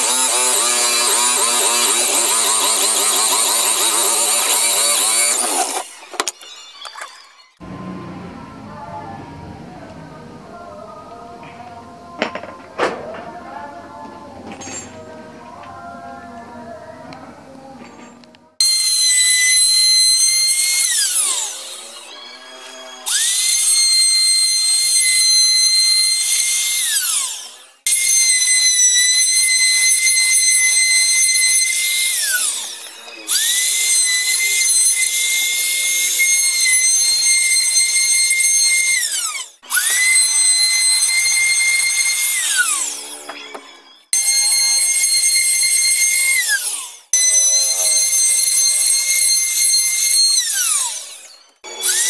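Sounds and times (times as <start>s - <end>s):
electric router motor whining: 0.0s - 8.8s, 18.6s - 52.0s.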